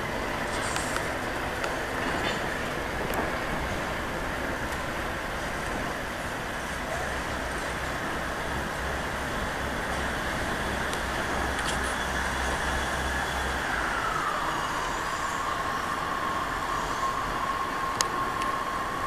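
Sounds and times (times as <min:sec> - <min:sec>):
diesel train running: 0:00.0 - 0:19.0.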